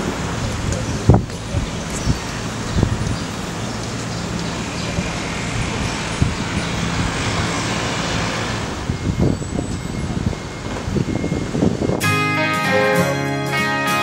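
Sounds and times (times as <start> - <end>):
vehicle passing: 0.0 - 11.9
low hum of engines: 0.0 - 12.1.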